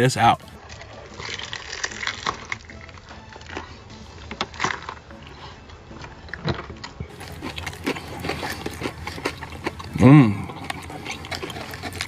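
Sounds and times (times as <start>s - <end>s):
person chewing crunchy food: 0.4s - 12.0s.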